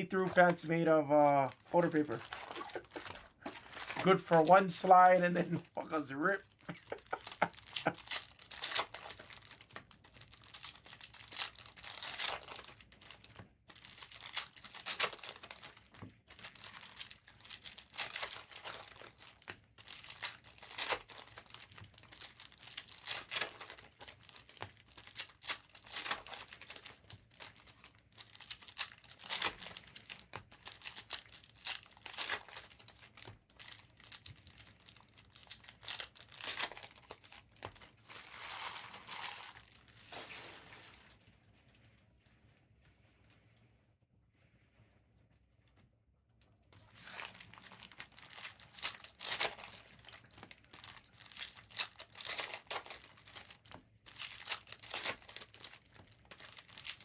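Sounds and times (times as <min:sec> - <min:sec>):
foil wrappers crinkling and tearing: 0:00.0 - 0:41.3, 0:46.8 - 0:57.0.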